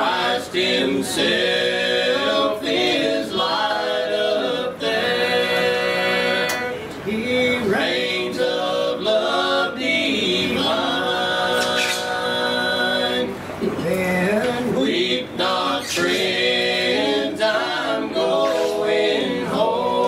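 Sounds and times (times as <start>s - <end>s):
male vocal quartet singing: 0.0s - 20.0s.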